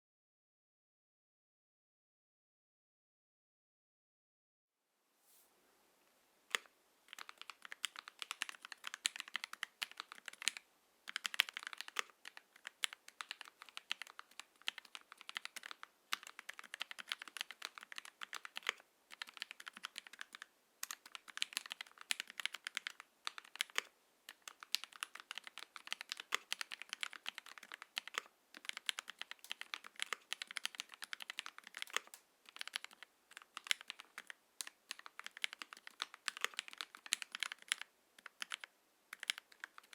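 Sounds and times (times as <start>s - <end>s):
mechanical keyboard typing: 6.5s - 39.9s.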